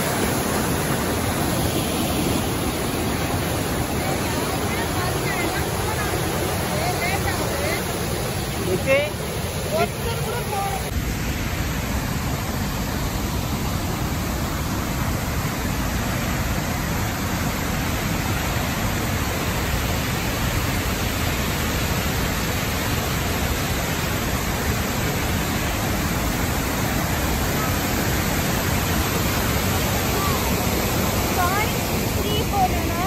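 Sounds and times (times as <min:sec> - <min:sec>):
large waterfall rushing: 0:00.0 - 0:33.0.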